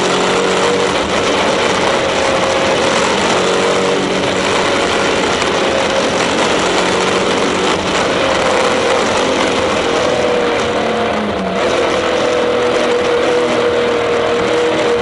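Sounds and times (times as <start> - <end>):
car engine at high revs: 0.0 - 15.0
road and wind noise: 0.0 - 15.0.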